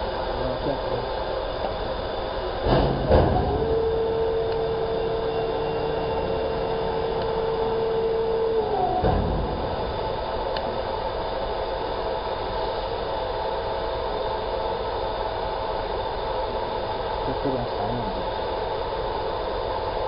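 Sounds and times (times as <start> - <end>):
machine mechanical hum: 0.0 - 20.0
motor whine: 0.0 - 20.0.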